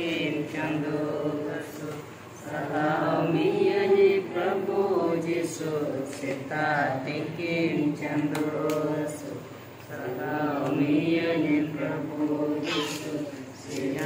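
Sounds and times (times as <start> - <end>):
group chanting a hymn: 0.0 - 14.0.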